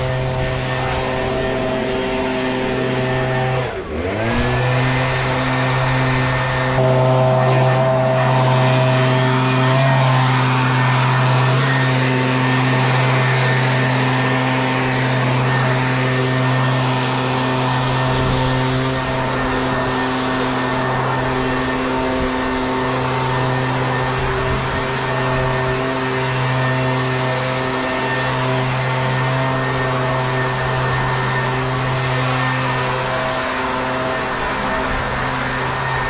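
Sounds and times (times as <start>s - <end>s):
leaf blower engine running: 0.0s - 36.0s.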